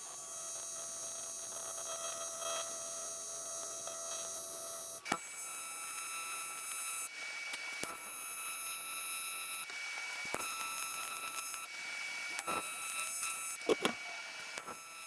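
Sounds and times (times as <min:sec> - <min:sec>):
welding arc buzzing: 0:00.0 - 0:07.2, 0:07.8 - 0:15.0.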